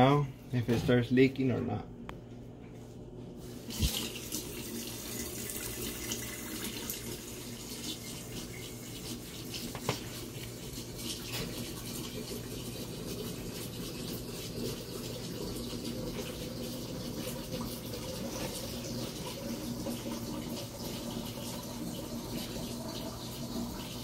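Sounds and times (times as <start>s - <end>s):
water draining through pipes: 3.4s - 24.0s
faucet running: 3.5s - 24.0s.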